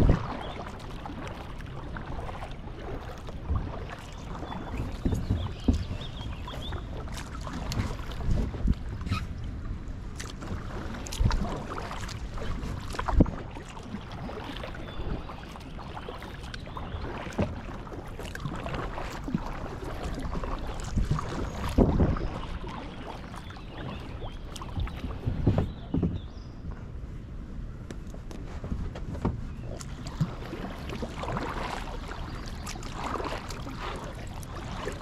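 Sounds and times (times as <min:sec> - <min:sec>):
paddle splashing in water: 0:00.0 - 0:26.6, 0:28.1 - 0:35.0.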